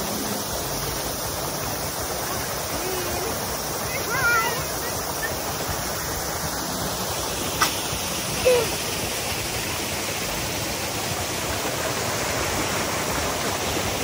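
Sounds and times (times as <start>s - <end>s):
flowing stream water: 0.0s - 14.0s.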